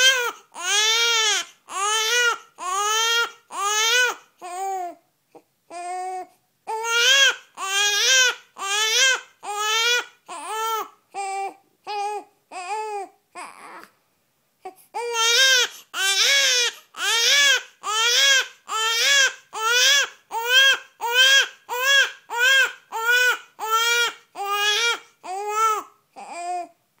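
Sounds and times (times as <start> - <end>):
baby crying: 0.0 - 13.9, 14.6 - 26.8.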